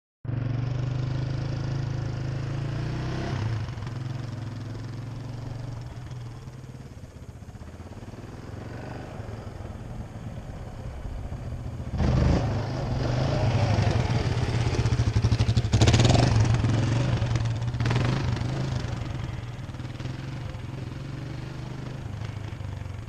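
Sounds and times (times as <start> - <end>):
quad bike engine running: 0.3 - 23.0.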